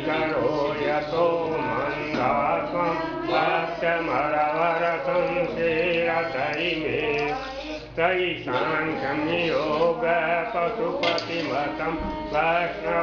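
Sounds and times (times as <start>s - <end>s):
voices chanting a mantra: 0.0s - 13.0s.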